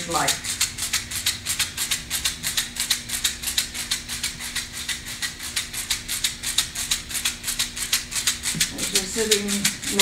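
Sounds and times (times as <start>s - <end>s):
hand rattle shaking: 0.0s - 10.0s.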